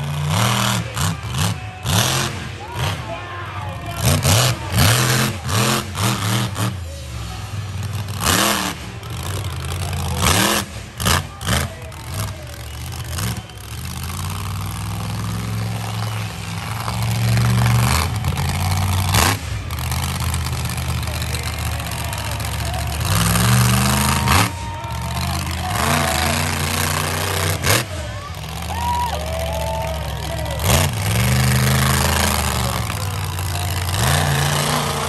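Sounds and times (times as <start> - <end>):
monster truck engine revving: 0.0 - 35.0.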